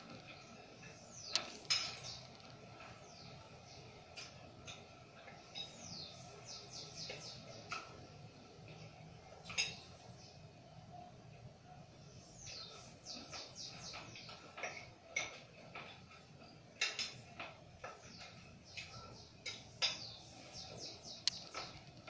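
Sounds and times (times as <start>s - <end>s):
bird chirping: 0.0s - 11.1s, 11.8s - 22.0s.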